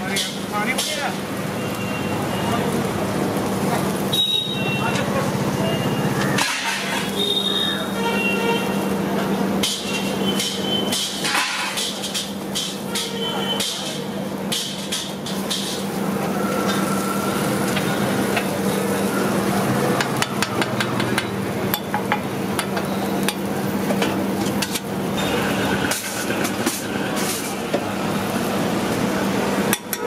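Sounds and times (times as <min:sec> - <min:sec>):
dosa sizzling on griddle: 0:00.0 - 0:30.0.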